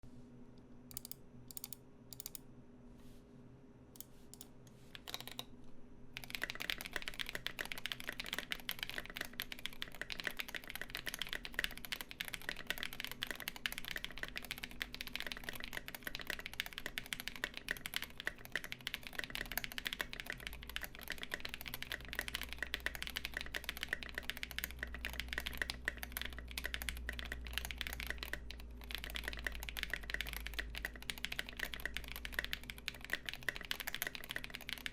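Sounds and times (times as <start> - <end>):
mechanical keyboard typing: 0.9 - 2.4, 4.0 - 5.5, 6.2 - 34.9.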